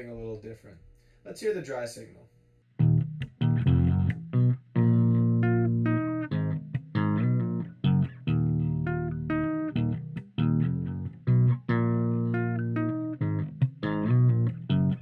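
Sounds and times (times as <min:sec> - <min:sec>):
plucked bass guitar notes: 0:02.8 - 0:15.0.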